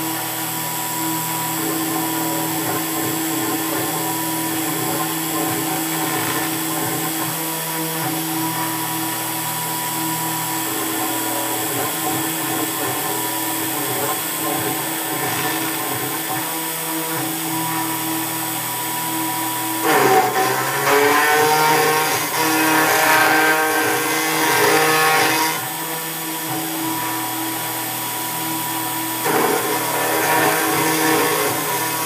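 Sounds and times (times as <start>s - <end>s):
end mill cutting aluminium: 0.0s - 32.0s
router spindle whine: 0.0s - 32.0s.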